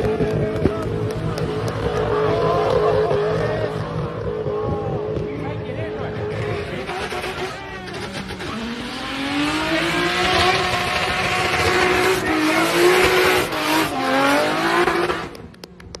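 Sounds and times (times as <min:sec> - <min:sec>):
car engine revving high: 0:00.0 - 0:15.6.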